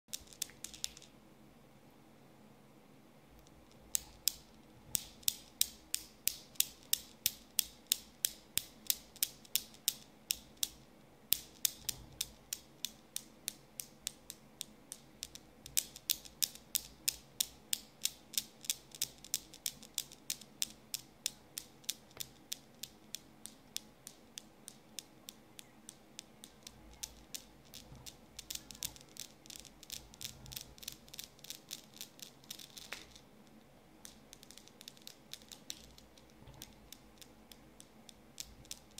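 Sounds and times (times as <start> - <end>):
newton's cradle balls clacking: 0.1 - 1.1, 3.4 - 38.9.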